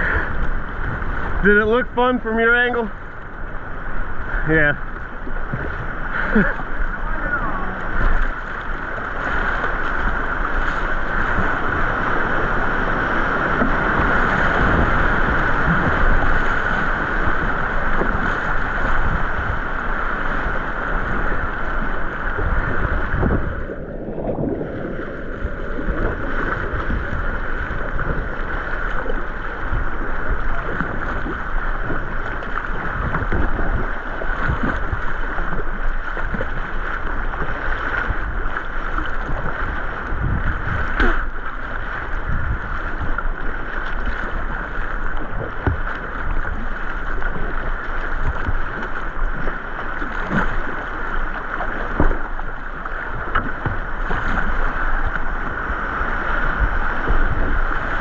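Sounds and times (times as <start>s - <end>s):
whitewater rushing: 0.0s - 58.0s
kayak knocks and splashes: 4.0s - 58.0s.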